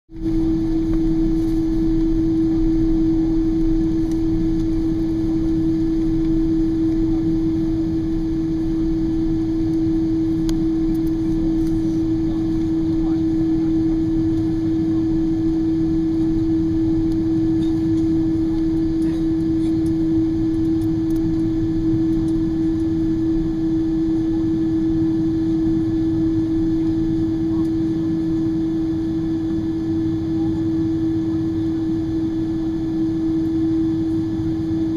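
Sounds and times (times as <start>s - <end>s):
airliner cabin engine drone: 0.1s - 34.9s.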